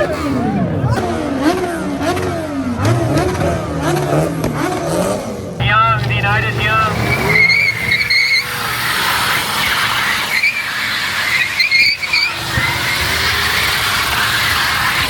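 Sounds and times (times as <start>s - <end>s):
car engine running: 0.0s - 15.0s
car tyres squealing: 0.0s - 15.0s.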